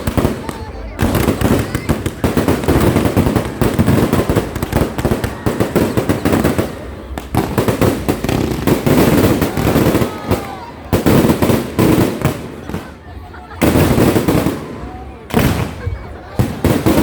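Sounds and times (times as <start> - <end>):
fireworks banging and crackling: 0.0 - 17.0.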